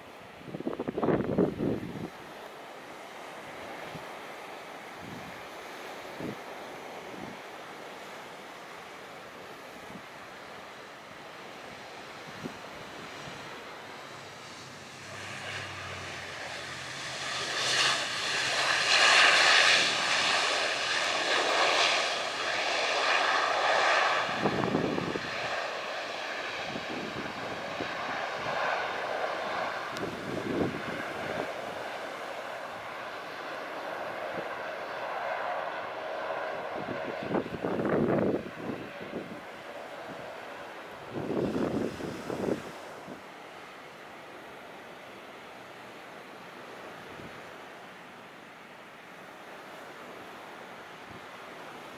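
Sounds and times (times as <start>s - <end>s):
turboprop engines droning: 0.0s - 51.9s.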